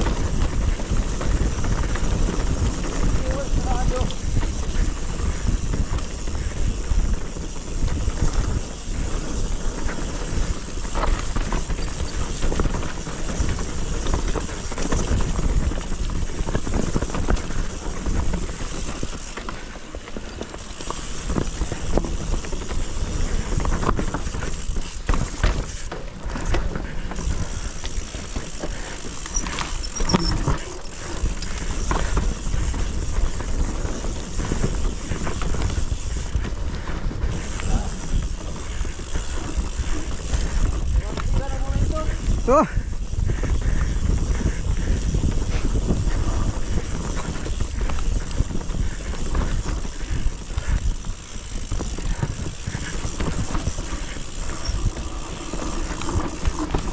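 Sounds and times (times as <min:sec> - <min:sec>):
bike knocking and clattering: 0:00.0 - 0:56.9
bike tyres rumbling over dirt: 0:00.0 - 0:56.9.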